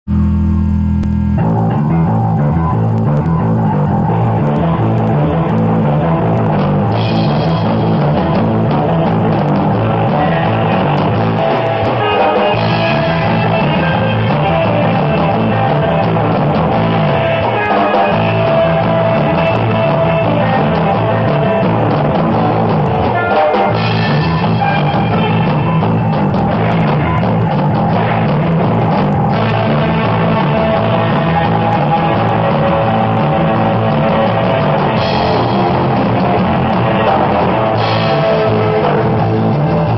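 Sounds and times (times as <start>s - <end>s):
bass guitar: 0.0s - 39.9s
electric guitar: 0.1s - 39.9s
drum kit beat: 1.3s - 39.9s.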